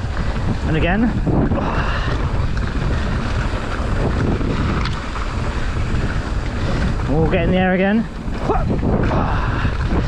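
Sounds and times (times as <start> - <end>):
bike rumbling over ground: 0.0 - 10.0
wind noise on microphone: 0.0 - 10.0.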